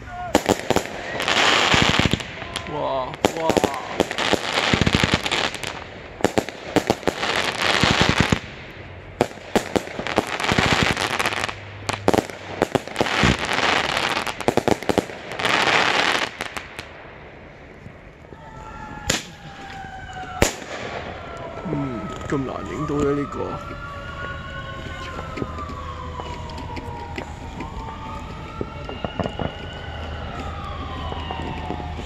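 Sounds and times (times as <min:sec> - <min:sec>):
firework crackling: 0:00.0 - 0:32.0.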